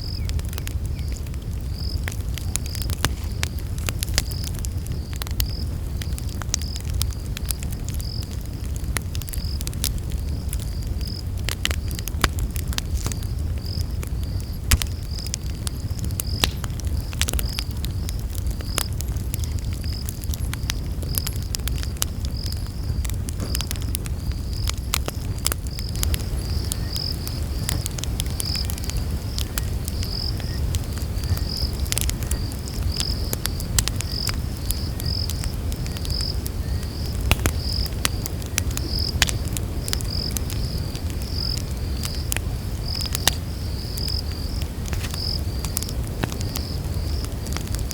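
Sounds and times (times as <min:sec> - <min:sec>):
campfire crackling: 0:00.0 - 0:47.9
cricket chirping: 0:09.3 - 0:47.9.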